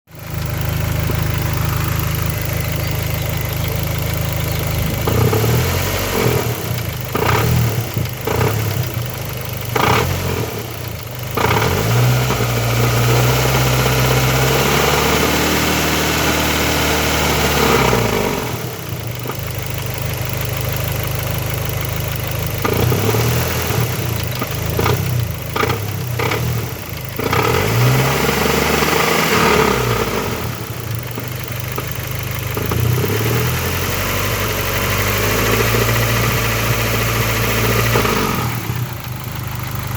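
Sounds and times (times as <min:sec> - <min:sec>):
car engine idling and revving: 0:00.1 - 0:39.9.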